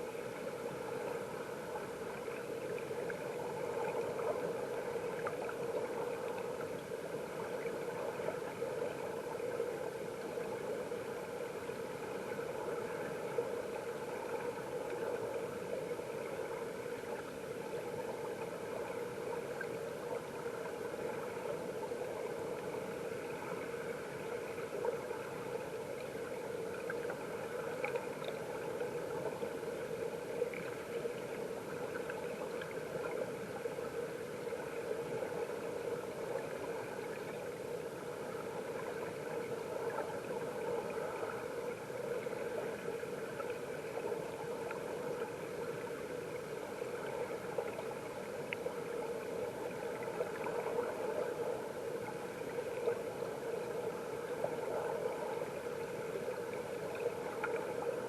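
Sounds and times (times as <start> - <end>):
faint ticks: 0.0 - 58.0
underwater stream rush: 0.0 - 58.0.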